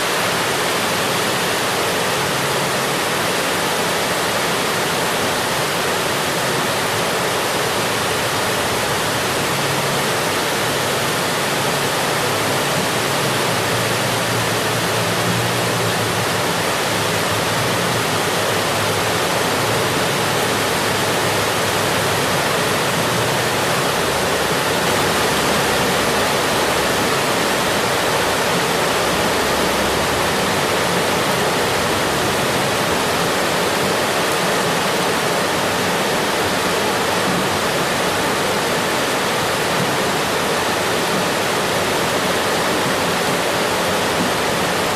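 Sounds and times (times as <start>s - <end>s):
steady rain hiss: 0.0s - 44.9s.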